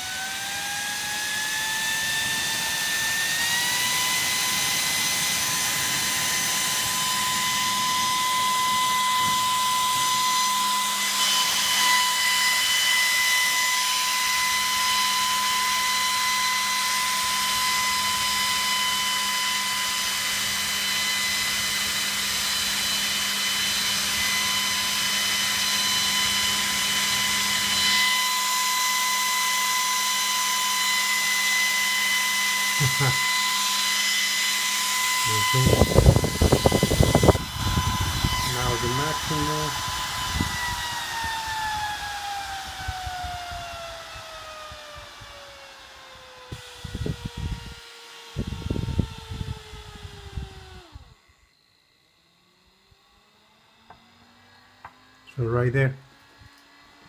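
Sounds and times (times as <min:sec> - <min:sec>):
server fan whirring: 0:00.0 - 0:51.2.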